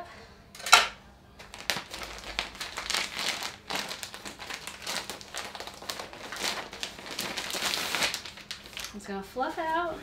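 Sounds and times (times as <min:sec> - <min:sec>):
plastic bag crinkling and rustling: 0:01.4 - 0:09.9.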